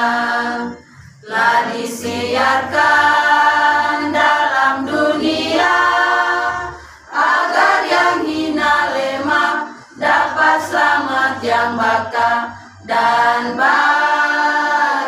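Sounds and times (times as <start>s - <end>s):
women's choir singing a hymn: 0.0s - 15.0s.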